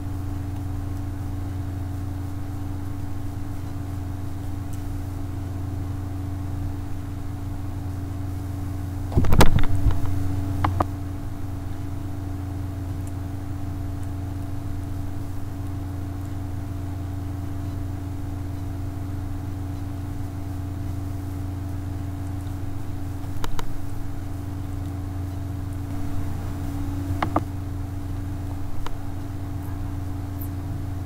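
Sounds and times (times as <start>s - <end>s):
low equipment hum: 0.0s - 31.0s.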